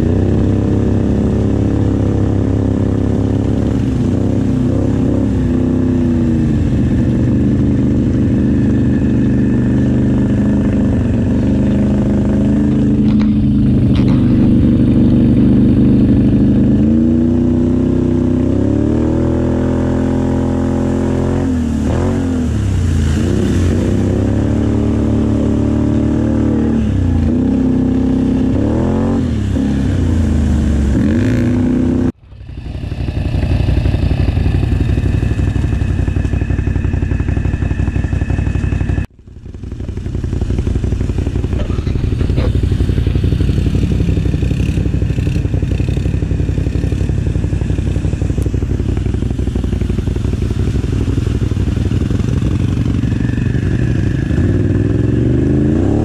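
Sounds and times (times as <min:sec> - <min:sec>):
atv engine revving: 0:00.0 - 0:56.0
splashing through river water: 0:00.0 - 0:56.0.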